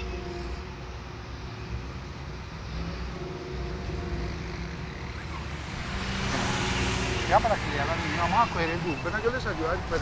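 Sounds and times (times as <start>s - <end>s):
low rumble of vehicle engines: 0.0s - 10.0s.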